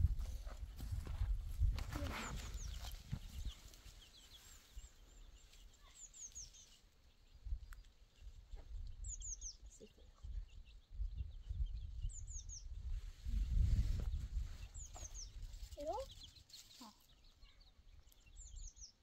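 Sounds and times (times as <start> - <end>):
small bird singing: 1.9 - 19.0.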